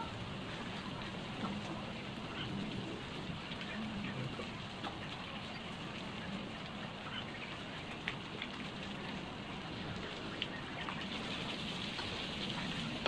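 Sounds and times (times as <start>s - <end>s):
crackles and pops: 0.8s - 13.0s.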